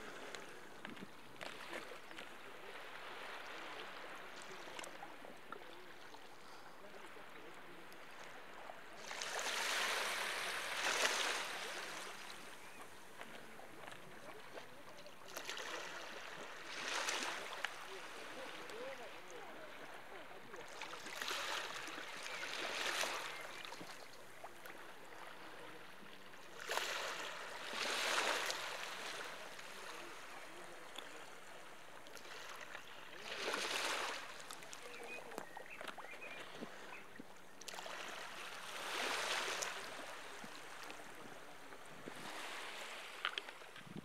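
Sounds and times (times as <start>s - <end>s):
sea waves washing onto beach: 0.0s - 44.0s.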